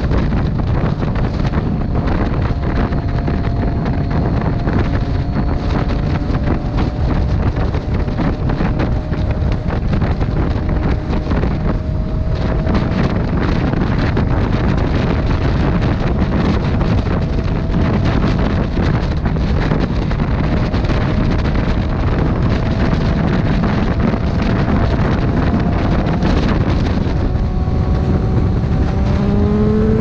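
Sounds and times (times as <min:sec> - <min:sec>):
faint engine hum: 0:00.0 - 0:30.0
wind buffeting microphone: 0:00.0 - 0:30.0.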